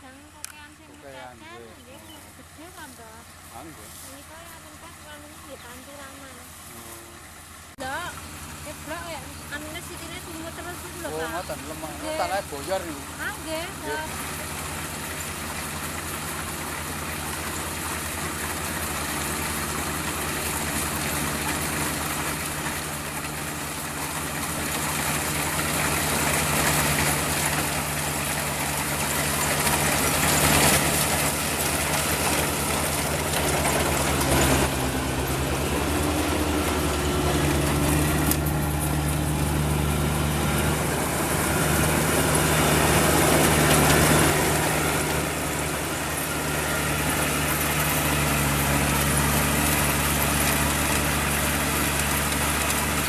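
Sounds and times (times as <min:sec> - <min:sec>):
combine harvester diesel engine: 0:00.0 - 0:53.0.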